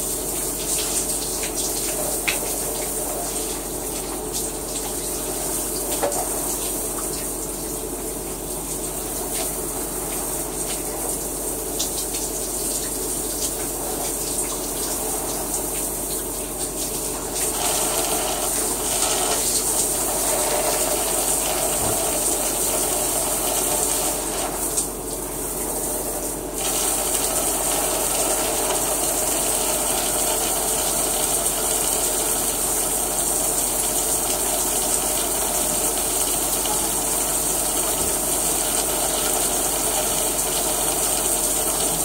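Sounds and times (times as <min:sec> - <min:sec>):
shower water running: 0:00.0 - 0:42.0.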